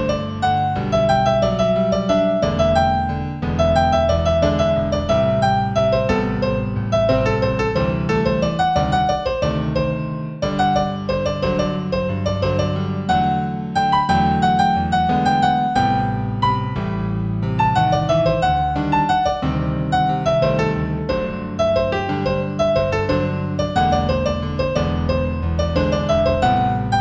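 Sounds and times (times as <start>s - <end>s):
solo piano piece: 0.0s - 27.0s.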